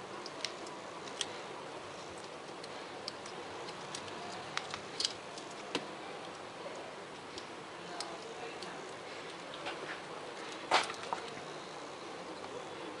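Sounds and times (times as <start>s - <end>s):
fingers crackling vinyl film: 0.0s - 11.5s.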